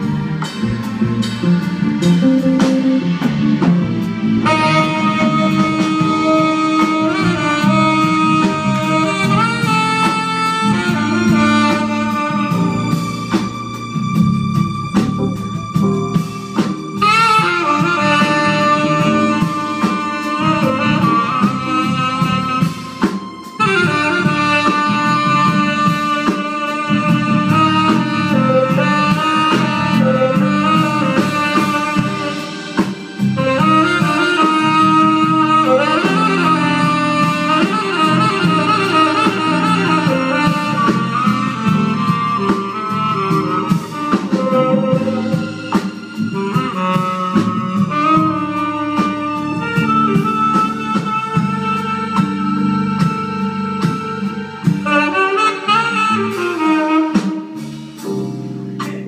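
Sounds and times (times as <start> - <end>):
drums and rhythm section: 0.0 - 59.0
tenor saxophone melody: 0.0 - 59.0.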